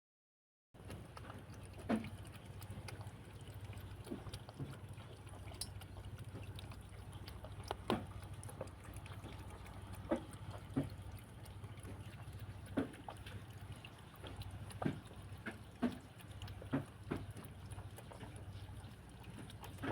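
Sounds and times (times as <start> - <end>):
cat lapping water: 0.8 - 19.9
steady low hum: 0.8 - 19.9.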